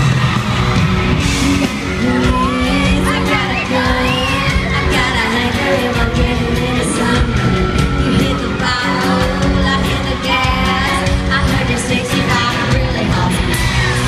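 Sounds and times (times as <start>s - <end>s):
live country band playing: 0.0s - 14.0s
woman singing: 1.5s - 14.0s.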